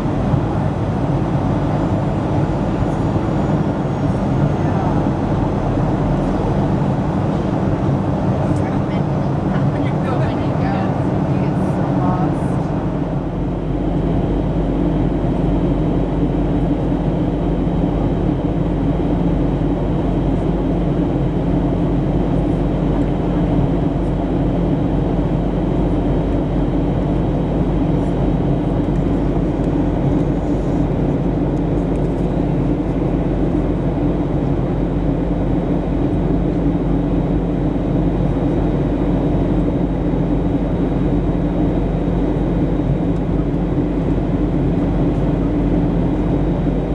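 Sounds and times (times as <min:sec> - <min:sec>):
airliner cabin engine hum: 0:00.0 - 0:46.9.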